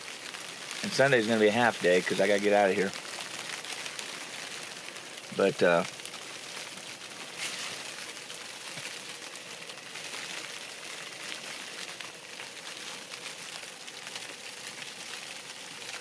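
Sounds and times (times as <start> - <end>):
sleet and wet snow falling: 0.0 - 16.0.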